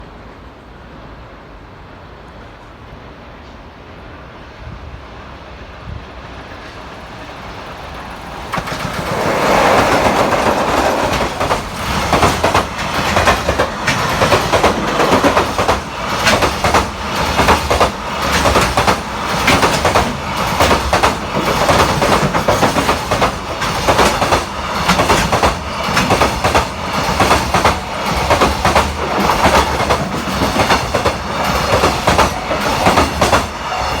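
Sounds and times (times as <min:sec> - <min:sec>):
freight train passing: 0:00.0 - 0:34.0
wheels clattering over rail joints: 0:06.5 - 0:34.0.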